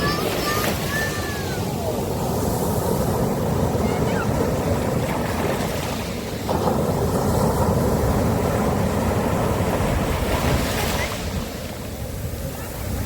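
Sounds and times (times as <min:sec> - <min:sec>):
sea waves washing on beach: 0:00.0 - 0:13.0.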